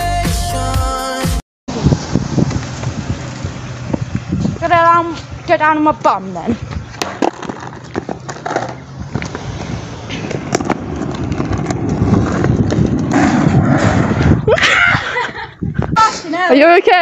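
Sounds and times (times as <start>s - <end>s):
skateboard wheels rolling on asphalt: 1.7s - 15.9s.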